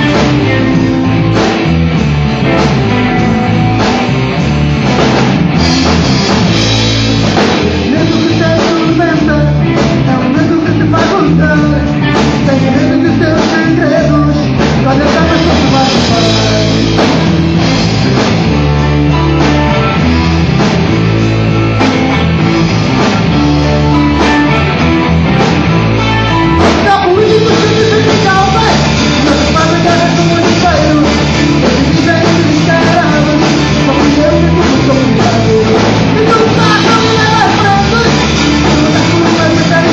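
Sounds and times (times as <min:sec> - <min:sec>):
rock band playing: 0:00.0 - 0:39.9
person singing: 0:06.4 - 0:17.8, 0:18.9 - 0:39.9.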